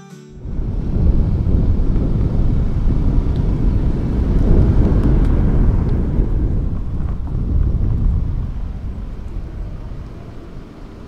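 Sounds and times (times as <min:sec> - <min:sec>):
truck engine and tyres rumbling: 0:00.4 - 0:11.0.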